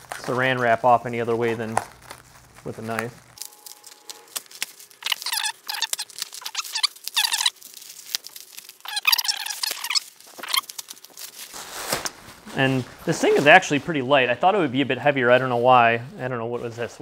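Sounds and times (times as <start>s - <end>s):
plastic film crinkling: 0.0s - 14.3s.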